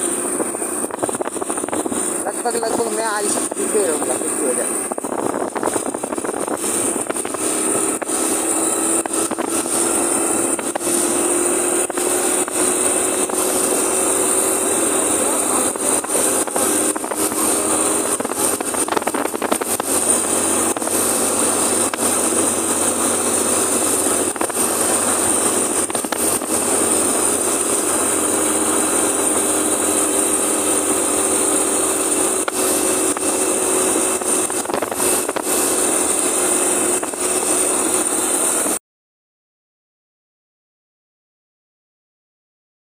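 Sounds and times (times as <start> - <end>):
motorcycle engine humming: 0.0 - 38.8
wind and road noise: 0.0 - 38.8.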